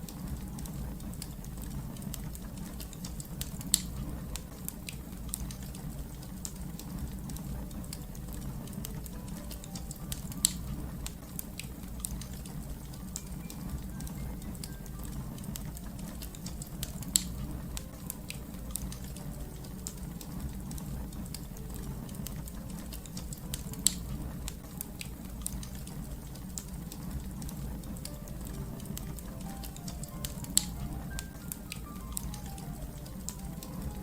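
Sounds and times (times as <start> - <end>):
fire crackling: 0.0 - 34.0
sharp pops and snaps of fire: 0.0 - 34.0.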